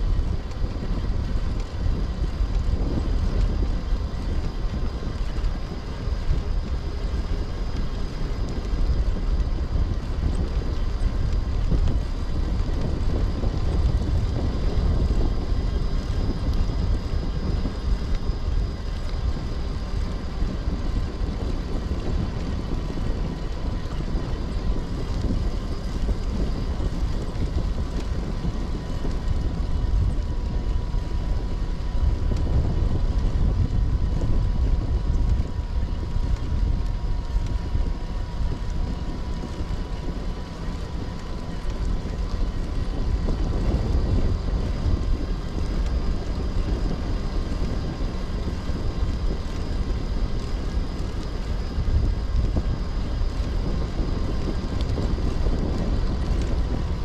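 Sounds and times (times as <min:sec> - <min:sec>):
faint high whine: 0:00.0 - 0:57.0
wind buffeting microphone: 0:00.0 - 0:57.0.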